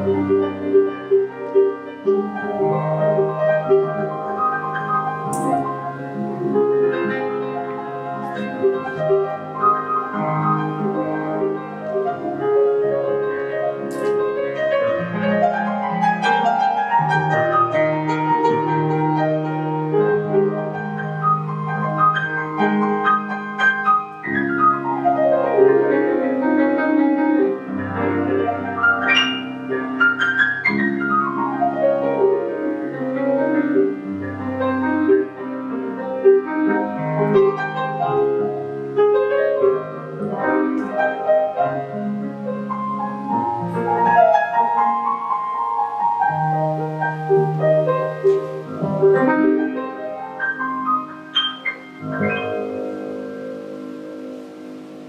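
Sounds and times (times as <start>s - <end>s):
slow grand piano piece: 0.0s - 55.0s.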